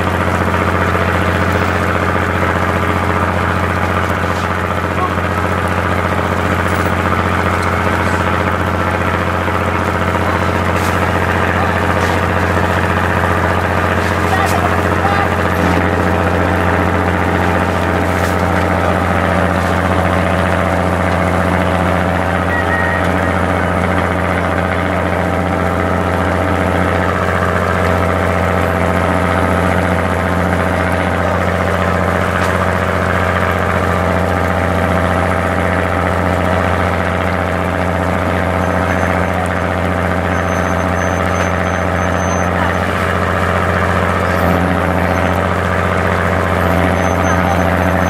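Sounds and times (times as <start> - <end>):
boat engine droning: 0.0 - 48.0.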